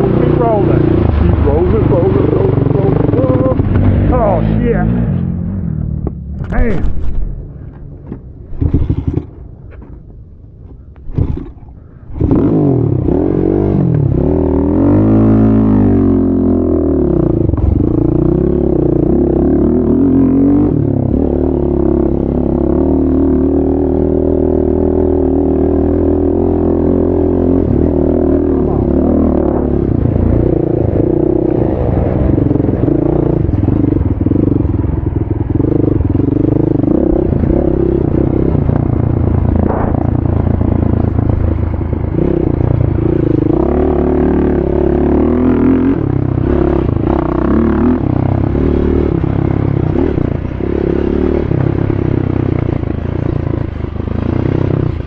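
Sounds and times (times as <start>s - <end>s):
atv engine revving: 0.0s - 7.2s, 8.0s - 9.4s, 11.1s - 55.0s.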